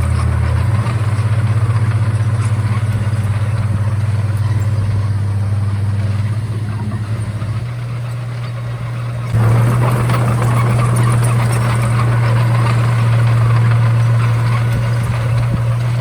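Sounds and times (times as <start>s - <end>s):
bulldozer diesel engine humming: 0.0s - 16.0s.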